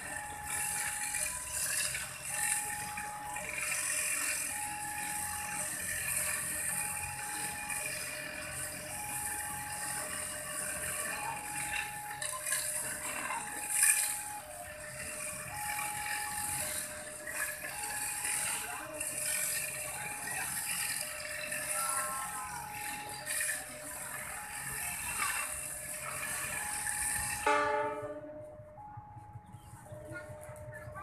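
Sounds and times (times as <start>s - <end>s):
level crossing two-tone alarm: 0.0s - 31.0s.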